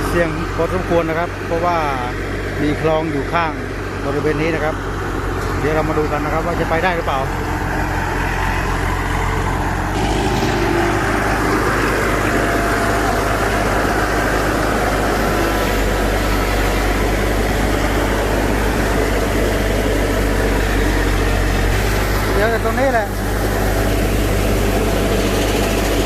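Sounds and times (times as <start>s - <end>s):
broad rushing noise: 0.0s - 26.0s
vehicle engine humming: 0.0s - 26.0s.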